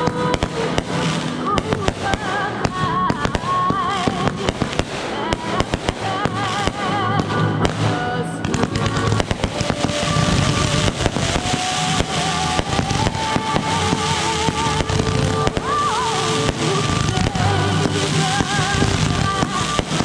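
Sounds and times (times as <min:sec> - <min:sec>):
background music: 0:00.0 - 0:20.0
fireworks firing and crackling: 0:00.0 - 0:20.0.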